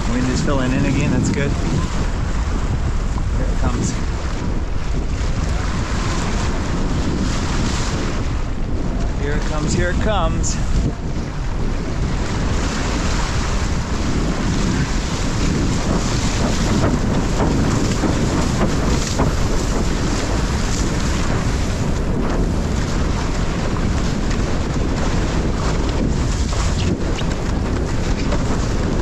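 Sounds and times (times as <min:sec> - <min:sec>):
water rushing along board: 0:00.0 - 0:29.0
wind buffeting microphone: 0:00.0 - 0:29.0.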